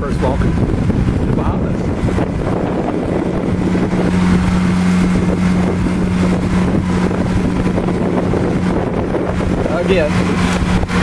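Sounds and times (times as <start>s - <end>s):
boat engine humming: 0.0s - 11.0s
rush of wind and water: 0.0s - 11.0s.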